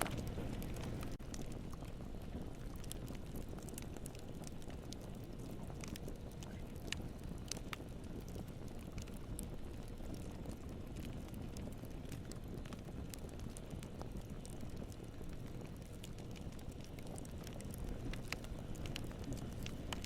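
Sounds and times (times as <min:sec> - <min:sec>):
campfire crackling and popping: 0:00.0 - 0:20.0
low fire rumble: 0:00.0 - 0:20.0.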